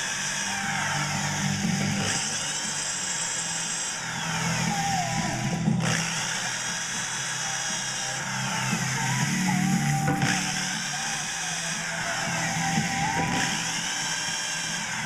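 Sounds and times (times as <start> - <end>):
electric drill whining: 0.0 - 15.0.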